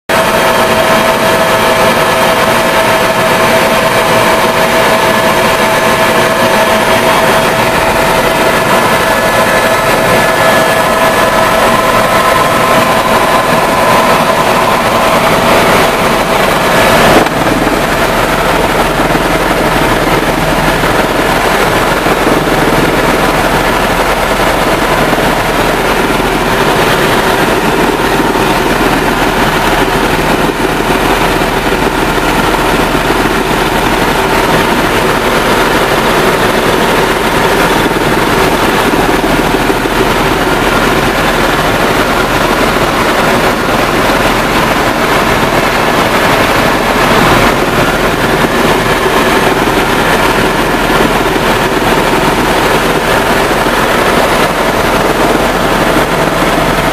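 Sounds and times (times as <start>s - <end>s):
helicopter engine and rotors: 0.1s - 56.9s.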